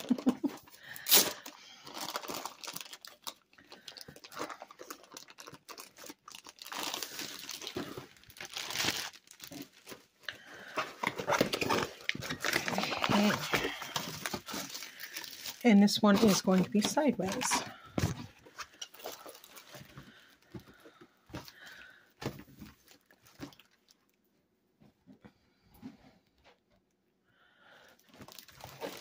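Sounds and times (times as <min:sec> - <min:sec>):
plastic wrapping crinkling: 0:00.0 - 0:24.2, 0:28.0 - 0:29.0.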